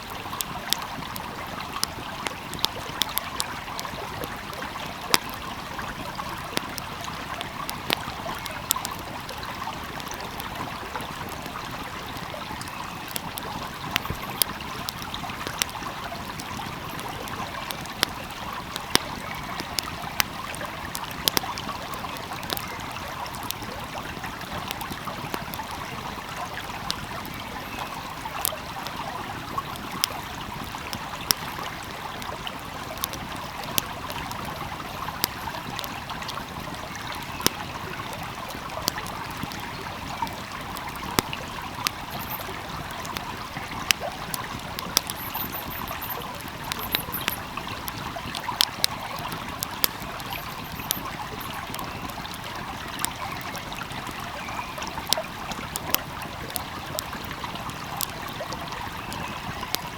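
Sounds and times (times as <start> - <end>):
stream flowing: 0.0 - 59.9
wood fire crackling: 0.0 - 59.9.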